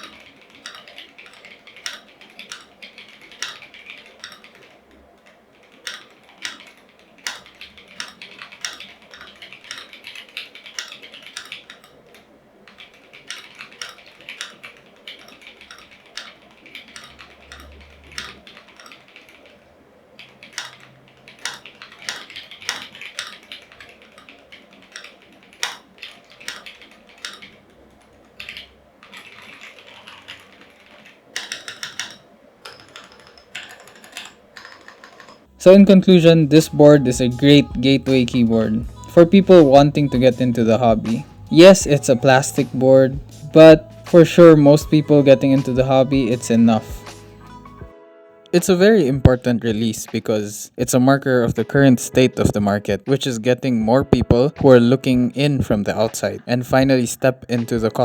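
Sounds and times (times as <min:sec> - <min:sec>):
mechanical keyboard typing: 0:00.0 - 0:47.2, 0:51.0 - 0:58.0.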